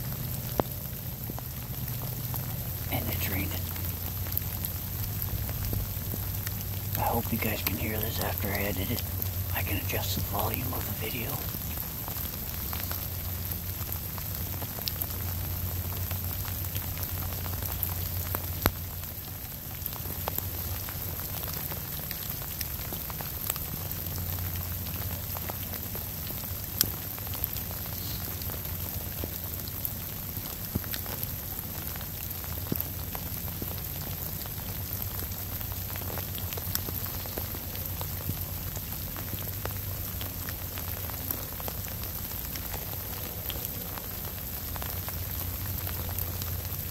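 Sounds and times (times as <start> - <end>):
raindrops ticking close by: 0.0 - 46.9
steady rain: 0.0 - 46.9.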